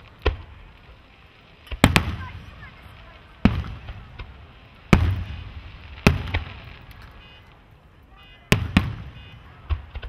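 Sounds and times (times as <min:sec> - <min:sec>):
fireworks bangs with rumbling echo: 0:00.0 - 0:10.0.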